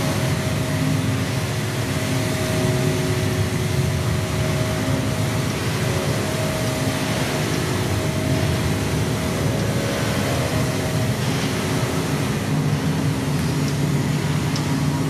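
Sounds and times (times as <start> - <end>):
electronic noise drone: 0.0 - 15.0.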